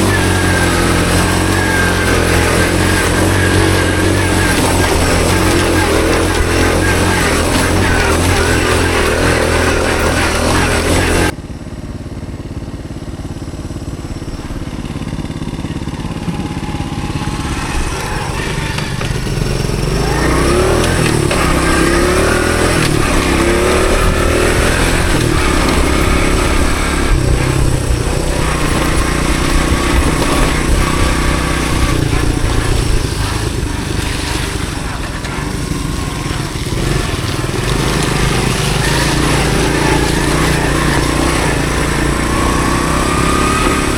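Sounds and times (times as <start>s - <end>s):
small motorcycle engine revving: 0.0s - 43.9s.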